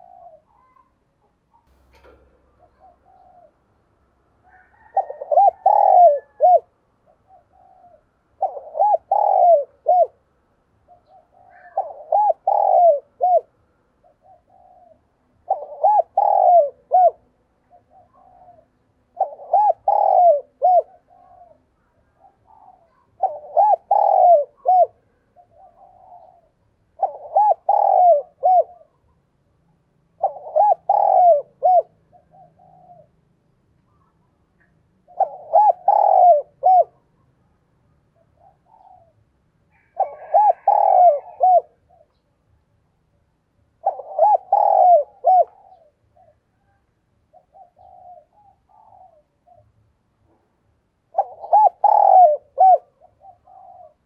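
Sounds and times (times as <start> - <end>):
dove cooing: 0.0 - 3.8, 4.4 - 29.2, 30.1 - 33.3, 35.0 - 37.3, 38.2 - 42.2, 43.8 - 49.7, 51.1 - 54.0.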